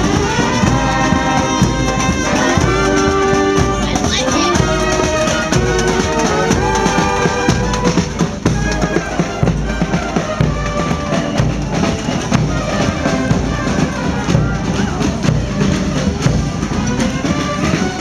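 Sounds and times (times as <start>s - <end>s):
band music: 0.0s - 18.0s
bass drum and snare beat: 0.0s - 18.0s.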